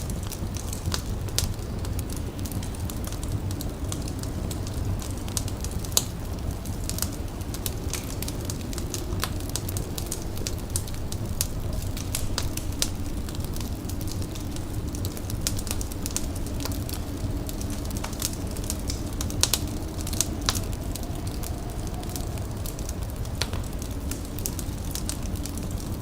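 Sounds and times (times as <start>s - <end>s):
fire crackling and popping: 0.0s - 26.0s
low steady rumble: 0.0s - 26.0s.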